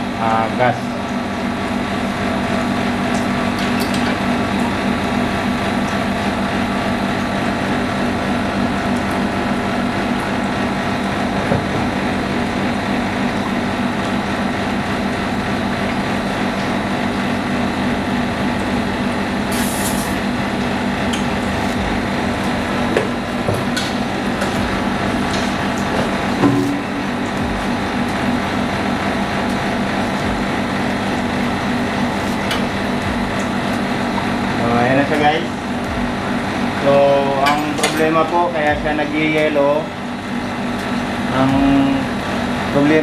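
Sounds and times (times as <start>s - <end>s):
air conditioner humming: 0.0s - 43.0s.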